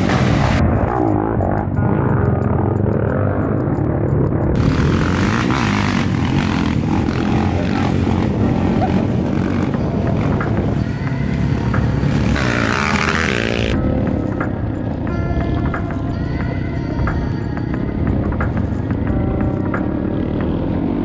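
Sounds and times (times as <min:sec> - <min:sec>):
dirt bike engines: 0:00.0 - 0:21.0.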